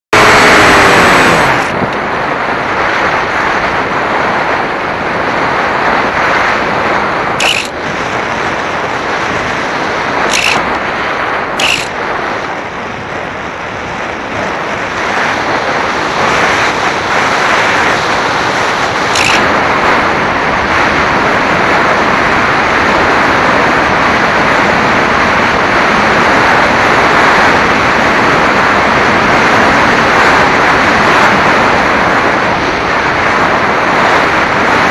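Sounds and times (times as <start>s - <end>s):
wind roaring over microphone: 0.1s - 34.9s.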